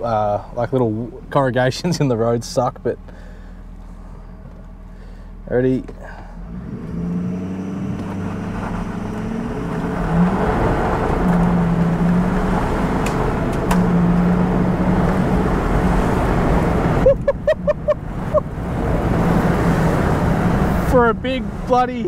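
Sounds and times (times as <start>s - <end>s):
diesel truck engine accelerating: 0.0s - 22.0s.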